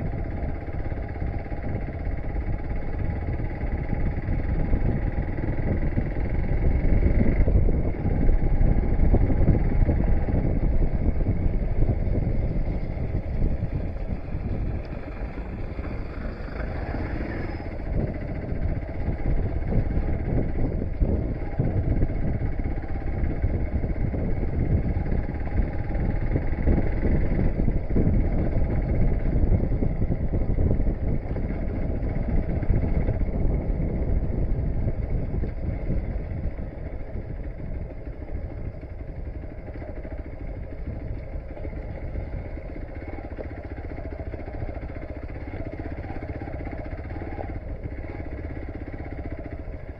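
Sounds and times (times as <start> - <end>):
motorcycle engine under load: 0.0 - 49.9.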